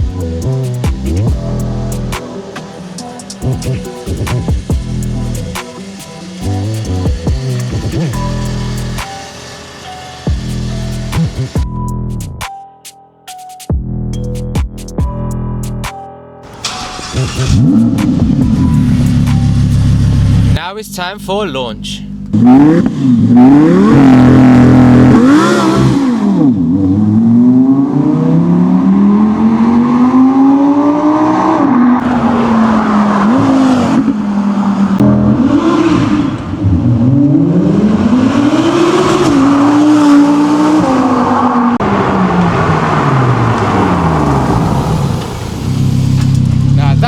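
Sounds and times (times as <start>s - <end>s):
sports car engine accelerating hard: 0.0s - 11.9s, 16.5s - 20.6s, 22.0s - 47.0s.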